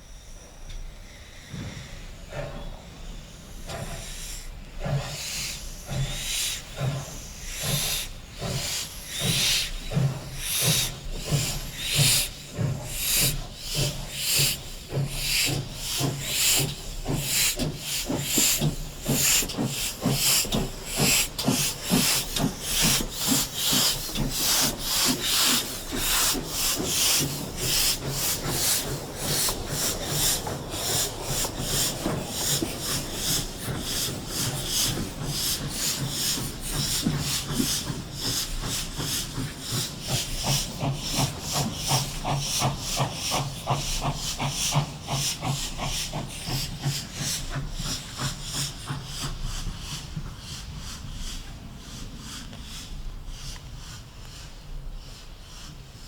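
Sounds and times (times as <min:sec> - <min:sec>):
steam locomotive exhaust beats: 0:00.0 - 0:56.0.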